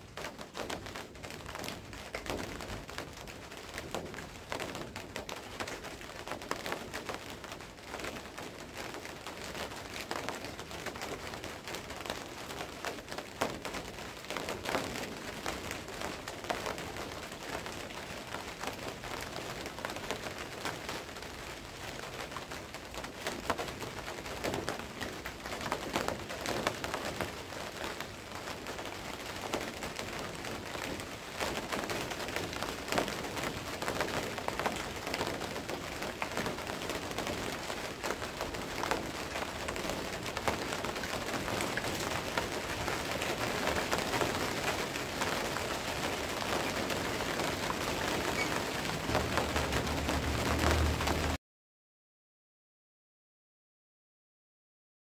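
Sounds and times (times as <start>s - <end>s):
raindrops ticking close by: 0.0s - 51.4s
steady rain falling: 0.0s - 51.4s.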